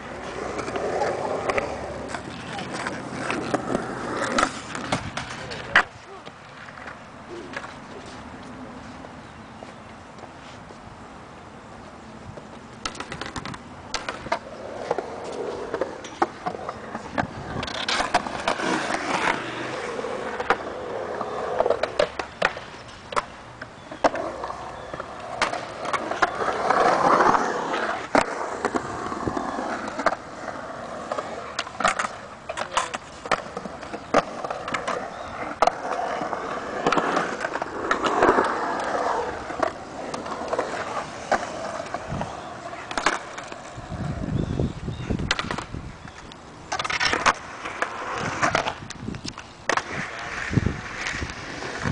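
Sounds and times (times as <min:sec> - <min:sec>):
skateboard clacks and scrapes: 0:00.0 - 0:10.8, 0:12.3 - 0:51.9
skate wheels rolling on concrete: 0:00.0 - 0:51.9.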